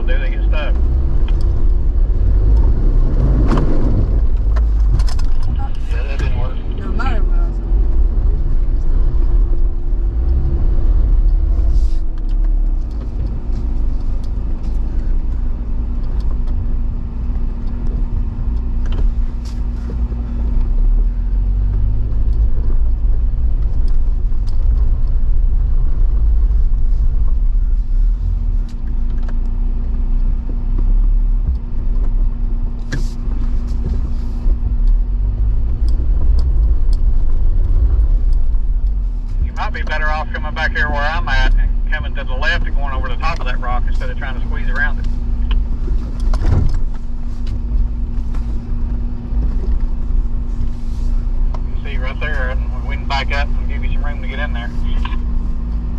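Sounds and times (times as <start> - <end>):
jeep engine at low revs: 0.0 - 55.9.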